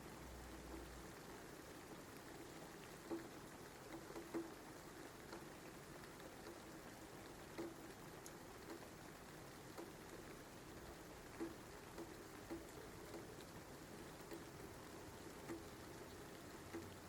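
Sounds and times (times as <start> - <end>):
faint steady rain: 0.0 - 17.0.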